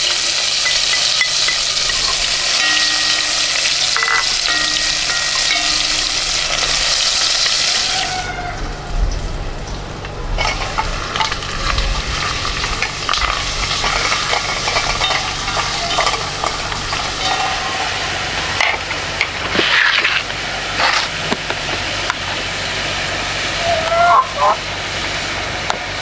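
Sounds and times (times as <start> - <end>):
utensil scraping a pan: 0.0 - 9.1, 9.7 - 22.4
food sizzling in a frying pan: 0.0 - 23.6.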